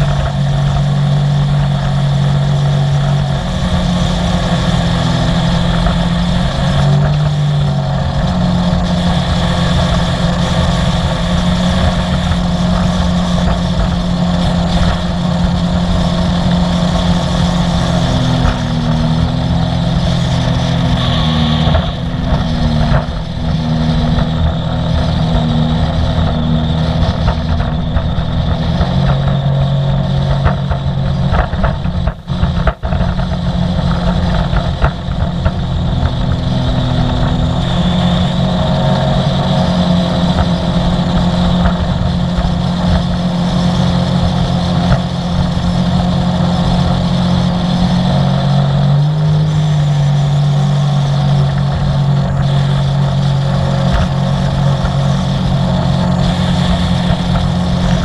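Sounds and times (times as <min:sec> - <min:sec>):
watercraft engine running: 0:00.0 - 0:58.0.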